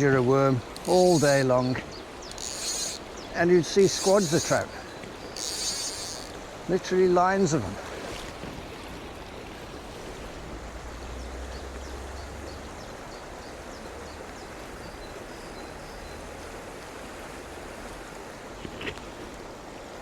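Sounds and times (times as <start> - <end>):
stream running over stones: 0.0 - 20.0.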